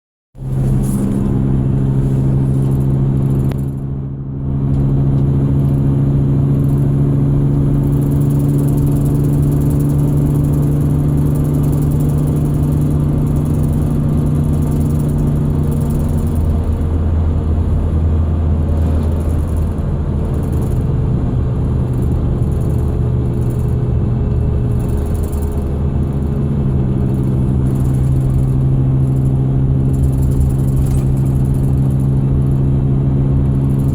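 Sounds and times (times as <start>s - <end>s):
car engine running: 0.4s - 33.9s
steady whine: 0.4s - 33.9s.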